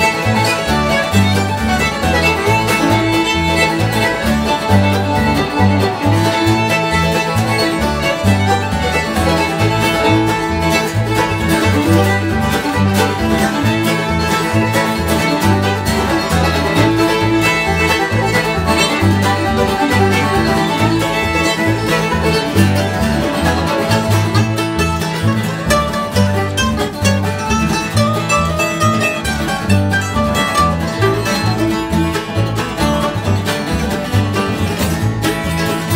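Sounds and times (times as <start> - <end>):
acoustic guitar: 0.0 - 35.9
banjo: 0.0 - 35.9
fiddle: 0.0 - 35.9
upright bass plucking: 0.0 - 35.9.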